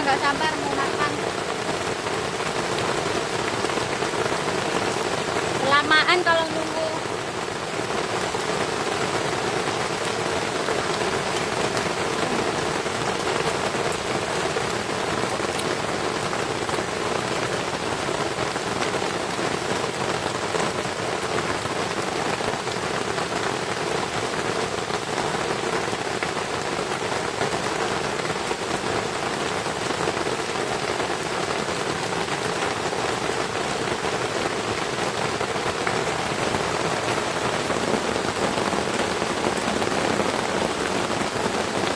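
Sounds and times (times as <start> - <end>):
heavy rain on a hut: 0.0 - 41.9.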